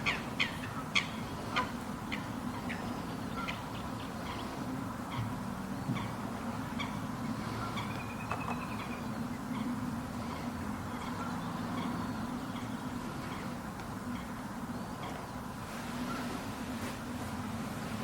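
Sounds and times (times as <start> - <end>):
birds chirping and trilling: 0.0 - 16.3
steady low hum: 0.0 - 18.0.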